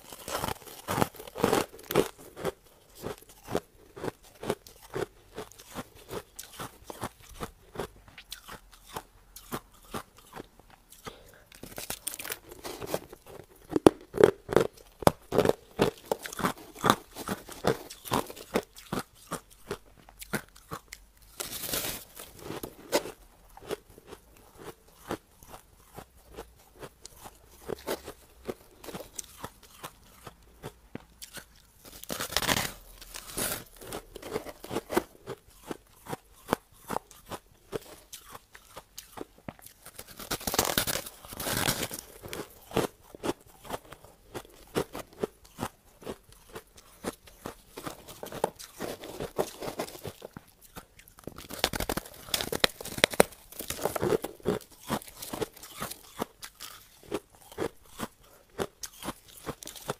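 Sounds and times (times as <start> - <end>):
chewing crushed ice: 0.0 - 59.9.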